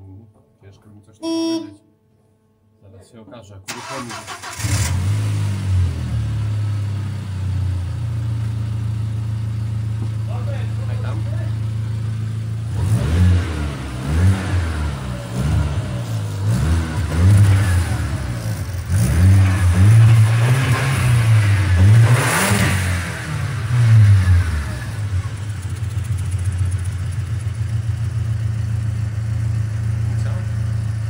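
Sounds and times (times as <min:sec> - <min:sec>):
car engine revving and idling: 0:03.8 - 0:31.0.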